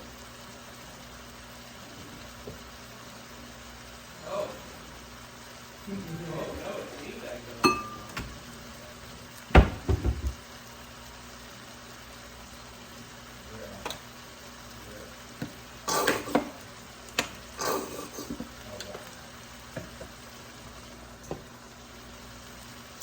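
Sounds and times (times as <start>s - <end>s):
frying sizzle: 0.0s - 23.0s.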